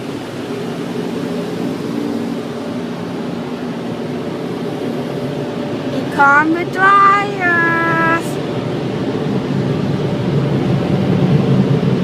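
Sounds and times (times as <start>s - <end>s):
car wash machinery whooshing: 0.0s - 12.0s.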